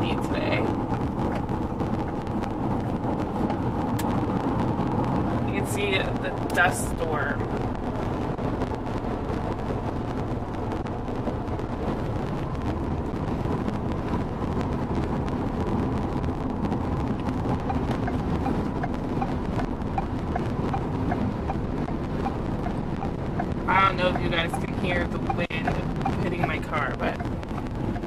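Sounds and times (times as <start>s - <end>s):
road noise rumble: 0.0s - 28.0s
wind hitting a car: 0.0s - 28.0s.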